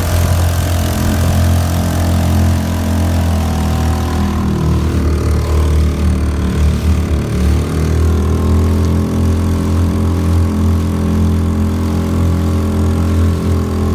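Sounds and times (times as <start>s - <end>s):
outboard motor running: 0.0s - 13.9s.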